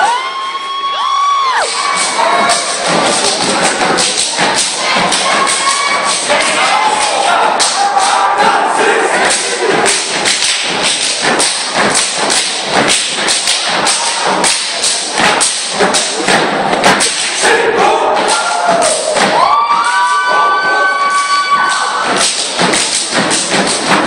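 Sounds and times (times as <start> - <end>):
stomping and clapping: 1.4 - 24.0.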